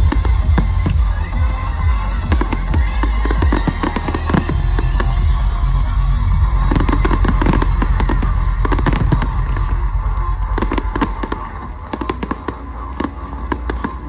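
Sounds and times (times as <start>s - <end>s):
music with deep bass: 0.0s - 14.0s.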